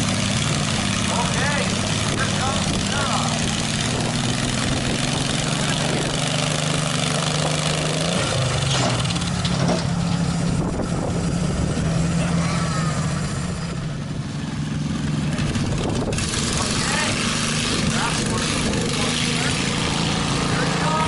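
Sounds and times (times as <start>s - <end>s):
lawn tractor engine running: 0.0s - 21.0s.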